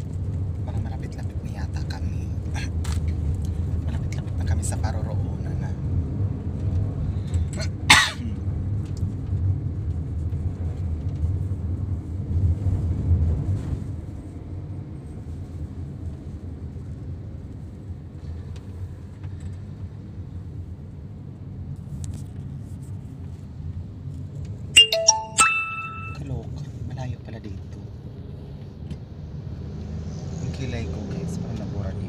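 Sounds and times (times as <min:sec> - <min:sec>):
engine and tyre rumble: 0:00.0 - 0:24.7, 0:27.1 - 0:32.0.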